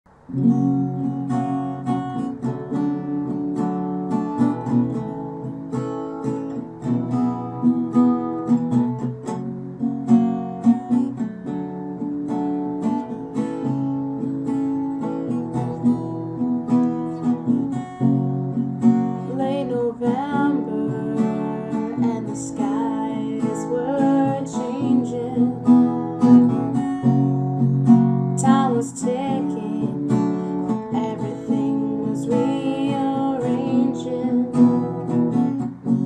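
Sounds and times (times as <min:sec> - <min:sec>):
acoustic guitar strumming: 0:00.1 - 0:36.0.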